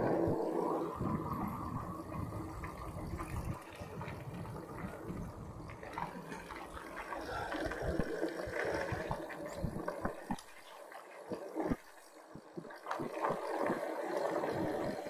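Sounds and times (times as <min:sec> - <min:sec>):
bicycle rolling over rough track: 0:00.0 - 0:15.0.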